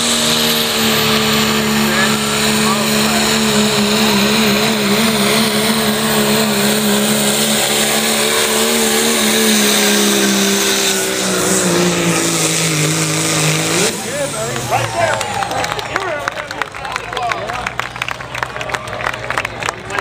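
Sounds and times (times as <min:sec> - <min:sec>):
diesel engine at full throttle: 0:00.0 - 0:20.0.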